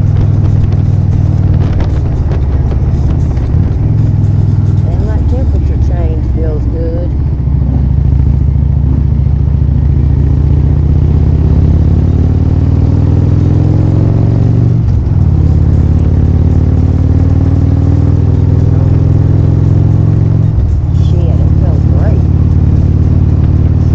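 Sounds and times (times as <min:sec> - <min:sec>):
vehicle engine under load: 0:00.0 - 0:23.9.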